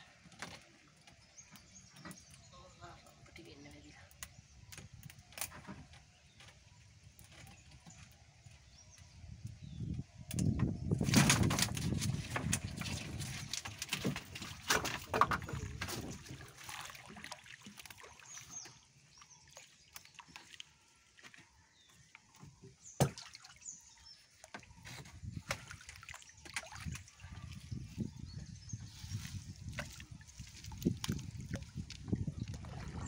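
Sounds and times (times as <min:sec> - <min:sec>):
net and wood clicks and knocks: 0:00.0 - 0:32.7
water sloshing against canoe: 0:00.0 - 0:33.0.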